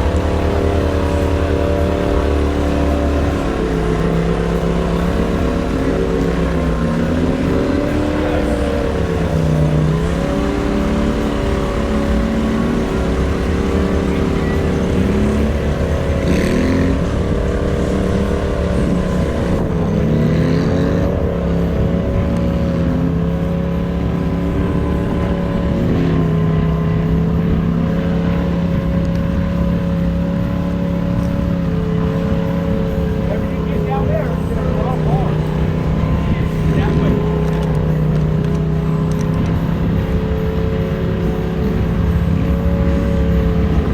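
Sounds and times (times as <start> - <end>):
off-road vehicle engine revving: 0.0 - 43.9.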